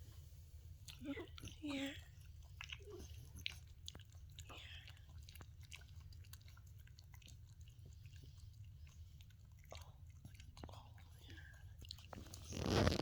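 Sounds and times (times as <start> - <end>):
low steady hum: 0.0 - 13.0
dog chewing: 0.7 - 13.0.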